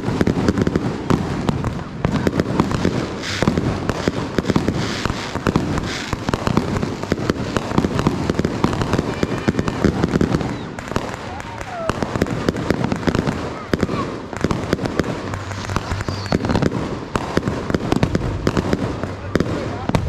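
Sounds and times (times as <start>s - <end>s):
firecrackers popping and banging: 0.0s - 20.0s
hissing firework bursts: 0.0s - 20.0s.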